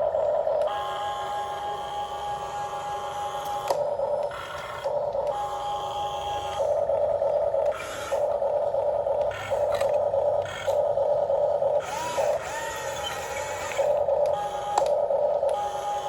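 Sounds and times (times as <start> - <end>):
electric gear motors whirring: 0.0 - 16.0.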